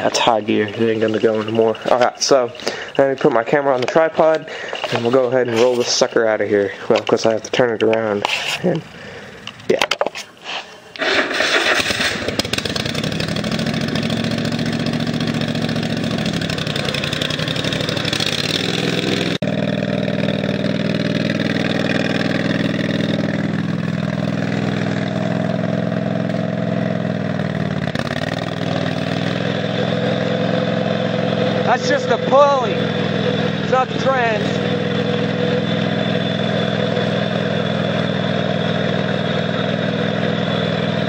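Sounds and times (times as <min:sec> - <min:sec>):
riding mower engine running: 0:00.0 - 0:41.0.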